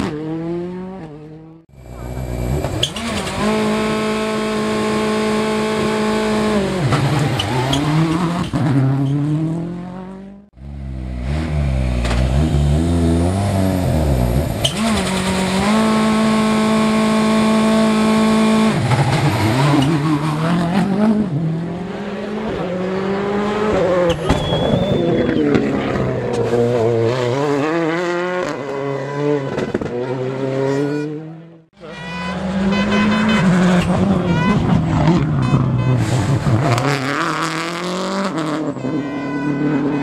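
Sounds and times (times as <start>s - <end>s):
rally car engines revving: 0.0s - 40.0s.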